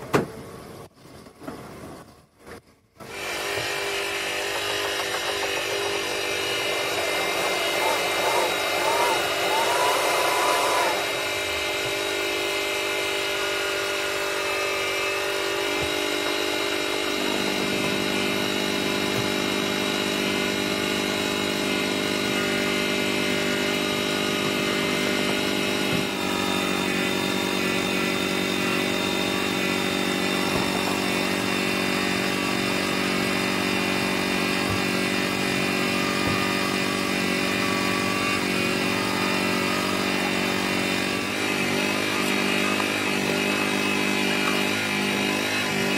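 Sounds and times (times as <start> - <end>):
buffing wheel machine drone: 3.0 - 45.9.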